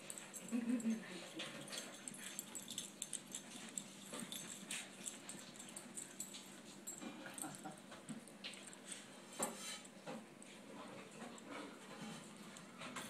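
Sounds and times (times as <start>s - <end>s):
soft dog sounds: 0.0s - 13.0s.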